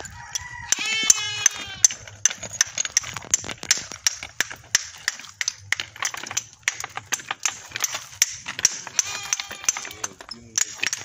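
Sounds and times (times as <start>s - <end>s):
hammer tapping stone: 0.2s - 11.0s.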